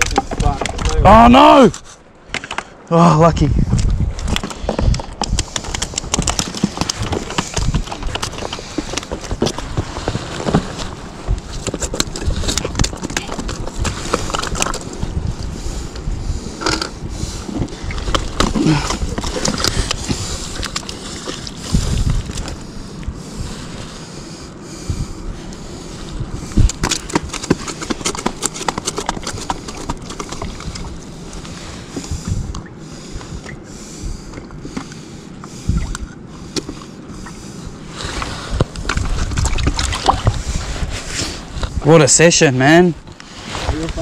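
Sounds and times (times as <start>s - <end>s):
wind and sea on rocks: 0.0s - 44.0s.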